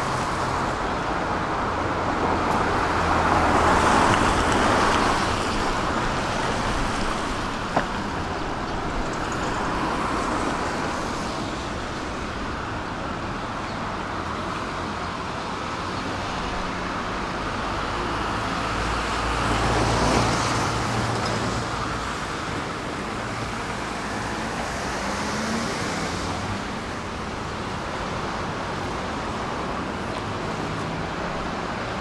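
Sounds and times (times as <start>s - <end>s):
traffic on wet road: 0.0s - 32.0s.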